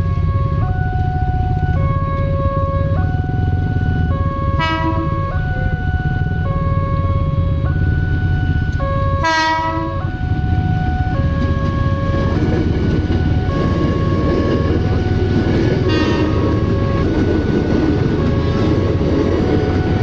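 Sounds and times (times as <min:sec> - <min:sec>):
crossing warning alarm: 0:00.0 - 0:20.0
low rumble of train: 0:00.0 - 0:20.0
train horn blast: 0:00.0 - 0:20.0.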